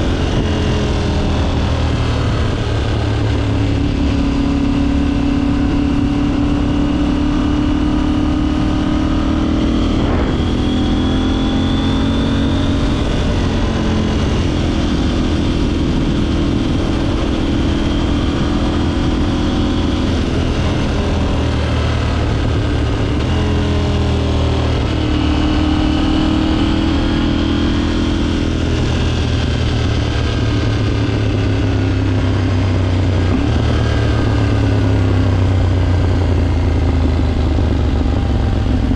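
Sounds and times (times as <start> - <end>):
motorcycle engine accelerating: 0.0 - 38.9
road and wind noise: 0.0 - 38.9.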